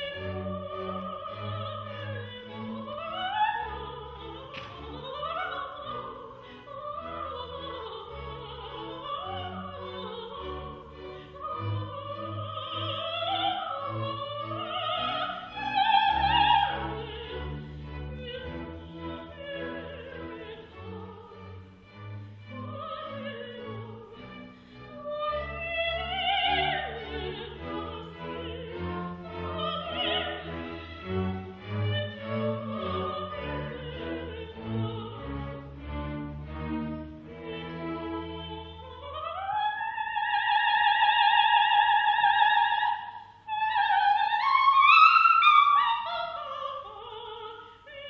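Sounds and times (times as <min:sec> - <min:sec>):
soprano singing opera: 0:00.0 - 0:36.4, 0:37.0 - 0:48.0.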